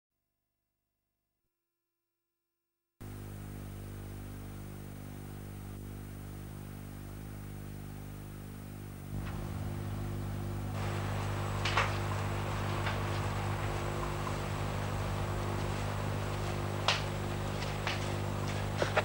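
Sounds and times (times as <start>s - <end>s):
faint hiss: 3.0s - 19.0s
low hum: 3.0s - 19.0s.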